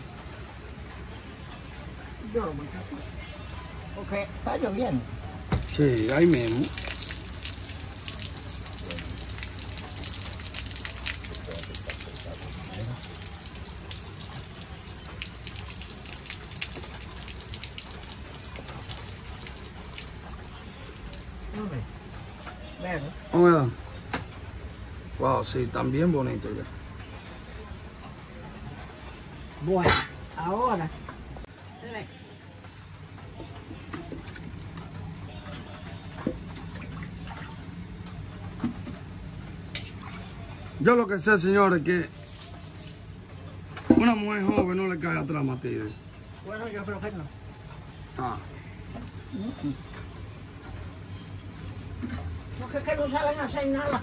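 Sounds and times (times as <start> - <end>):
steady rain: 0.0 - 36.5, 37.1 - 54.0
sharp drops and drips: 4.0 - 54.0.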